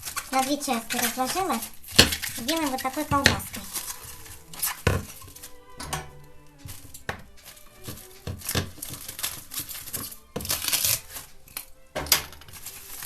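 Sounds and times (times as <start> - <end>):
cling film crinkling and rustling: 0.0 - 13.0.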